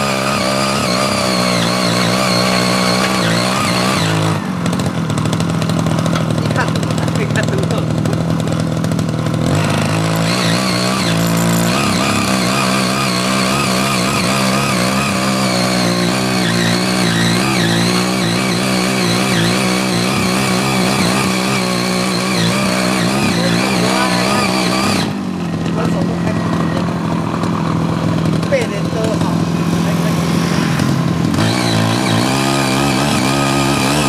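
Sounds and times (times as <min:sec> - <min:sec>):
blades churning soil: 0:00.0 - 0:34.0
tiller engine running: 0:00.0 - 0:34.0.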